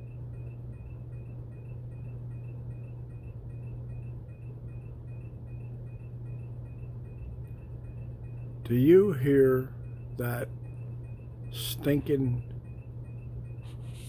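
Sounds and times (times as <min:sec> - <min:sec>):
ceiling fan humming: 0:00.0 - 0:14.0.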